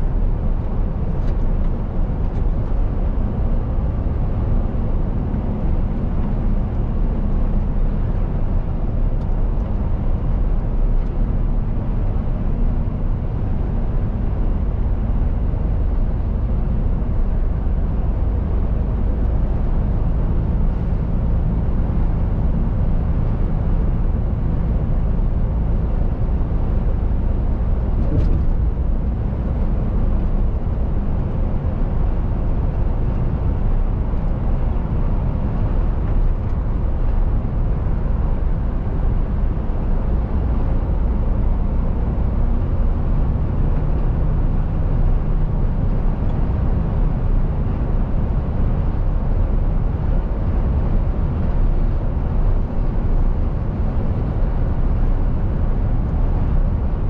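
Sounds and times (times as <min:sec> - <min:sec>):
road and tyre noise: 0:00.0 - 0:57.0
truck engine drone: 0:00.0 - 0:57.0.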